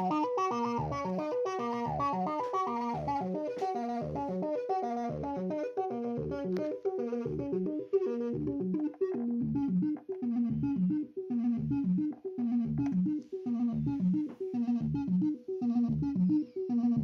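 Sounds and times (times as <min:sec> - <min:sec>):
synthesizer bass line: 0:00.0 - 0:17.0.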